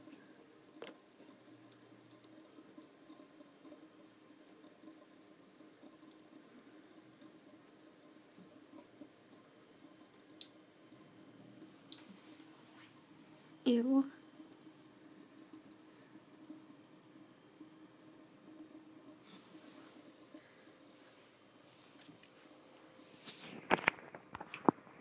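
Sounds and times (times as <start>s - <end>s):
faint room hum: 0.0s - 25.0s.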